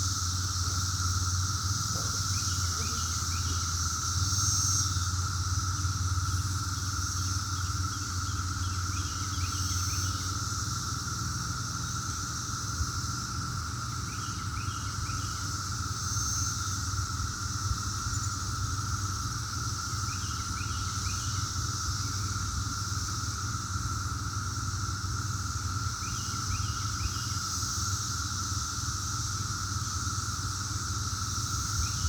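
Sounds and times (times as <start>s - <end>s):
cicadas humming: 0.0s - 32.0s.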